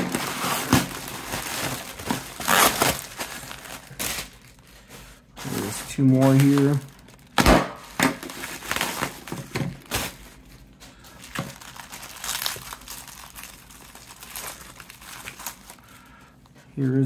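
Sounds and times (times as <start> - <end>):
plastic packaging crinkling: 0.0 - 16.6.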